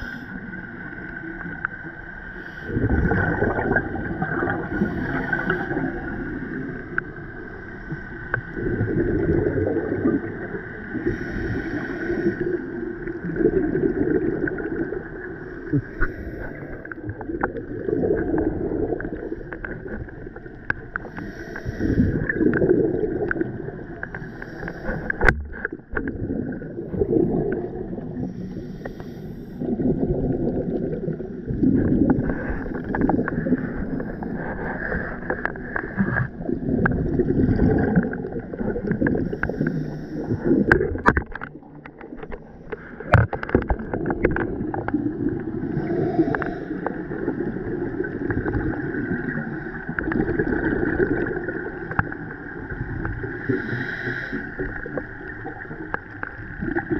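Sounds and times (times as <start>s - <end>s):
underwater regulator bubbling: 2.4s - 56.9s.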